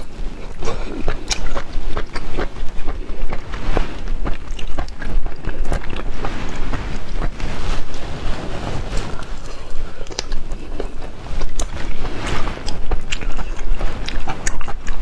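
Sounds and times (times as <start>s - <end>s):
wet chewing and lip smacking: 0.0s - 7.4s, 9.4s - 15.0s.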